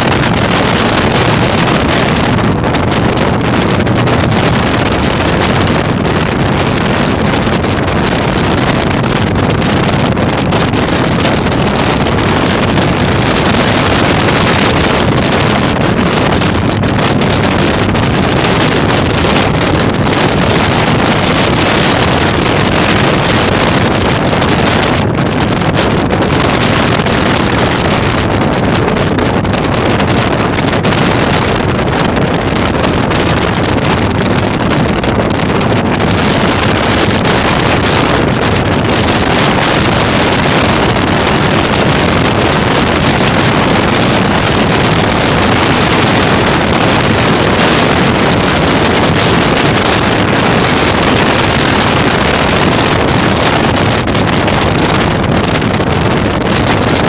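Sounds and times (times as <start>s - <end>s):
wind blasting microphone: 0.0s - 57.0s.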